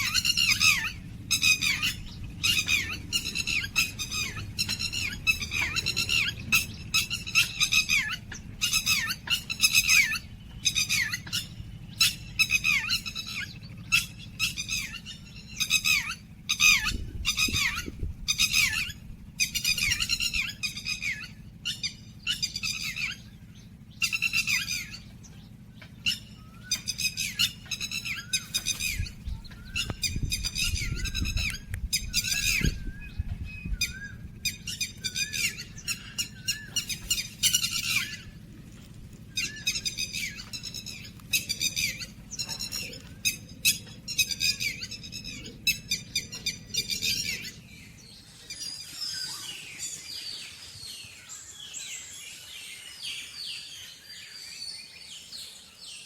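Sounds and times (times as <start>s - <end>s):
birds calling: 0.0s - 56.0s
low steady rumble: 0.0s - 56.0s.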